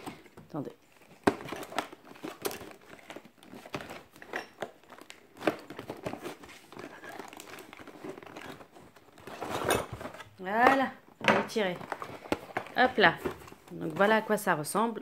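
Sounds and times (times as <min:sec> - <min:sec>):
cardboard crinkling and rustling: 0:00.0 - 0:10.9, 0:11.6 - 0:14.8.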